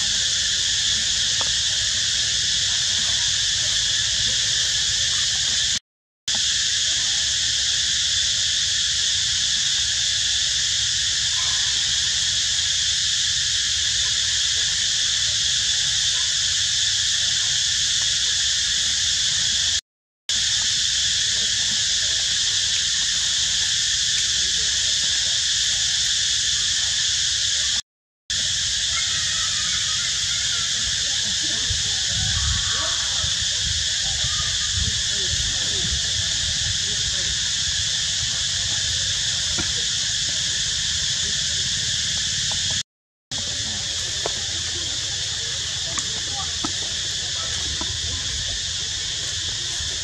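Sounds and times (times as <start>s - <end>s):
high-pitched insect chorus buzzing: 0.0s - 50.0s.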